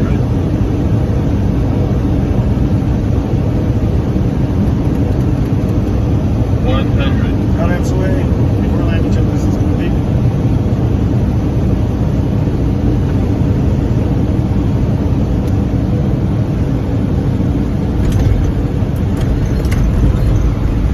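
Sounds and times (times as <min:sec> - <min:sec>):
propeller airplane engine drone: 0:00.0 - 0:20.9.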